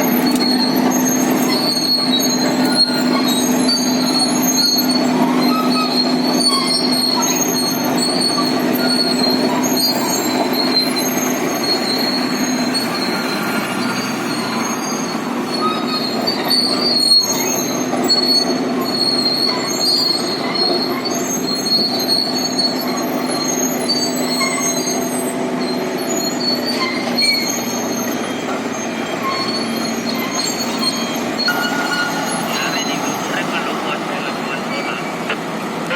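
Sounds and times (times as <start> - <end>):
diesel engine running: 0.0 - 35.9
steel tracks squealing and clanking: 0.0 - 35.9.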